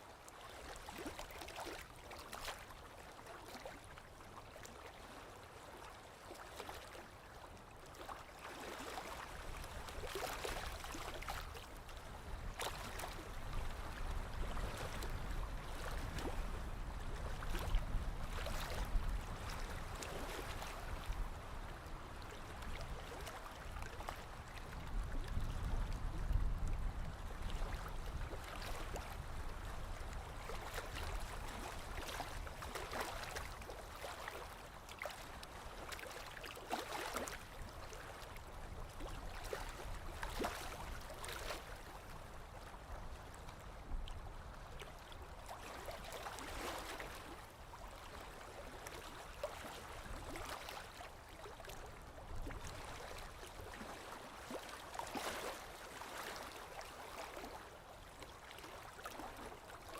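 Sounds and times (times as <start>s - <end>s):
lake waves lapping on shore: 0.1s - 59.9s.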